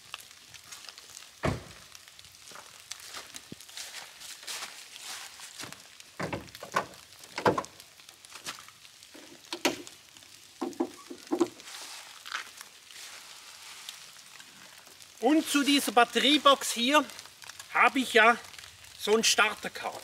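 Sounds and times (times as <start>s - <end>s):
footsteps in dry leaves: 0.0s - 10.2s, 10.8s - 20.0s.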